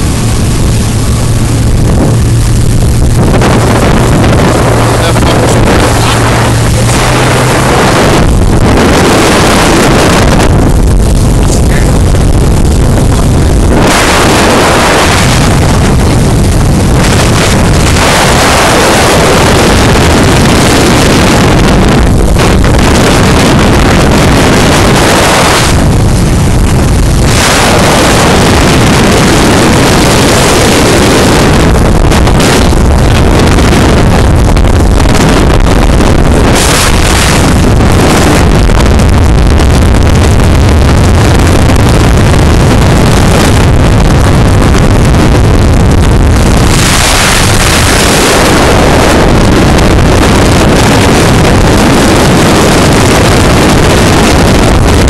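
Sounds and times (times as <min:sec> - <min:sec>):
outboard motor: 0:00.0 - 0:55.0
water rushing past hull: 0:00.0 - 0:55.0
wind buffeting microphone: 0:00.0 - 0:55.0.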